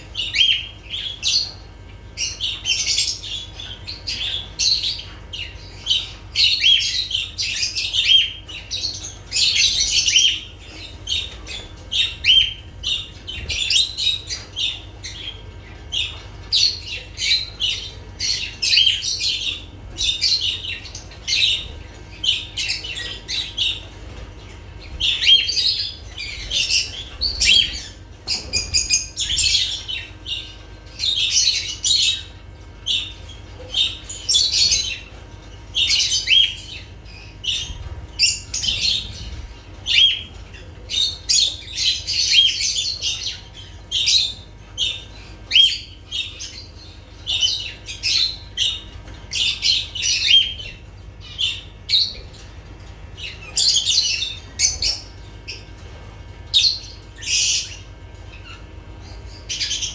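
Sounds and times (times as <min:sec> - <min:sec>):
lovebirds chirping and squawking: 0:00.0 - 0:59.9
low steady hum: 0:00.0 - 0:59.9.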